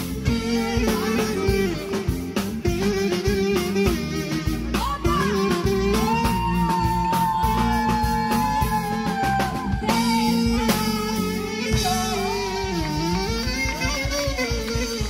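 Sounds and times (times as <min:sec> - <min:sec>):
keyboard: 0:00.0 - 0:15.0
steady drum beat: 0:00.0 - 0:15.0
long held note: 0:00.2 - 0:15.0.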